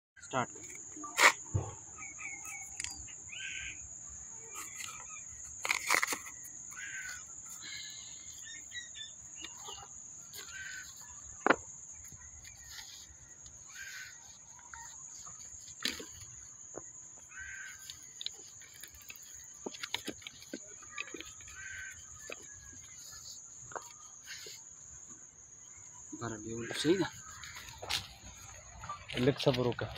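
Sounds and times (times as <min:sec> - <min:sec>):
birds calling: 0:00.2 - 0:29.9.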